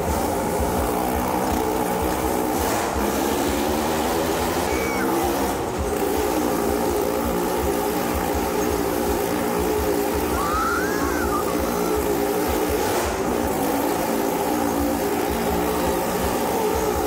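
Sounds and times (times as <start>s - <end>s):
motorcycle engine at high revs: 0.0s - 17.0s.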